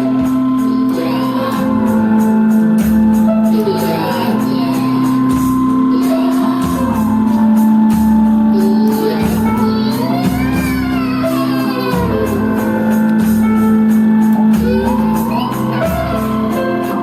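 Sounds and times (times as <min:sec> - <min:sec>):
band music with droning tones: 0:00.0 - 0:17.0.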